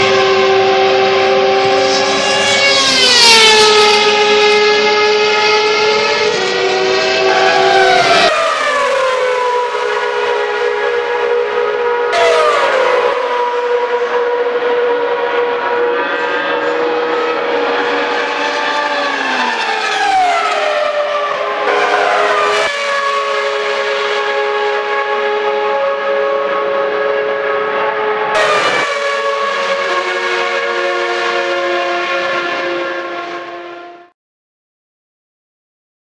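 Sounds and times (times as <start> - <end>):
race car engines passing: 0.0 - 34.1.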